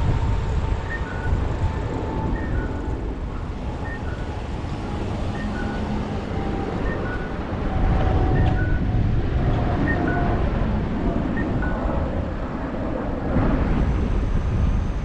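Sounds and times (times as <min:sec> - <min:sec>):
bicycle road rumble: 0:00.0 - 0:15.0
wind on microphone: 0:00.0 - 0:15.0.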